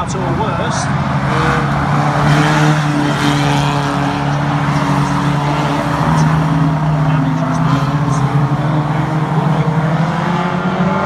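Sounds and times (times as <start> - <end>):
racing car engines passing: 0.0 - 11.0.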